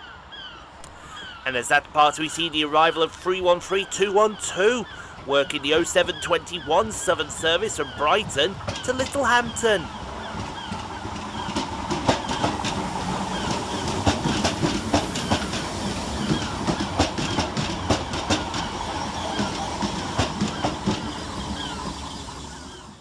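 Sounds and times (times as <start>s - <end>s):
train passing: 0.7s - 23.0s
wheels clicking over rail joints: 3.9s - 23.0s.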